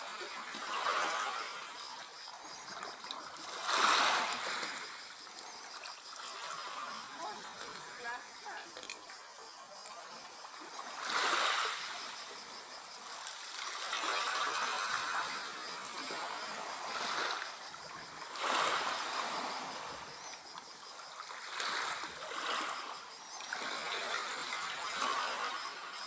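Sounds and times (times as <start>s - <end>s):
small sea waves lapping: 0.0s - 26.0s.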